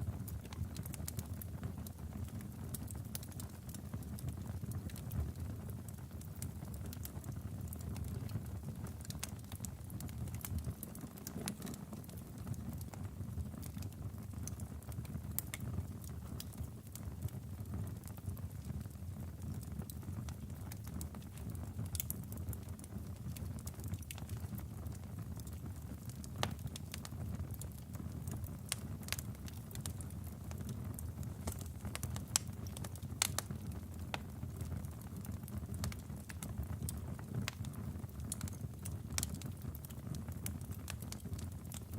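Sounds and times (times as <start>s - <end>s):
low rumble of flames: 0.0s - 41.9s
logs crackling and popping: 0.1s - 41.9s.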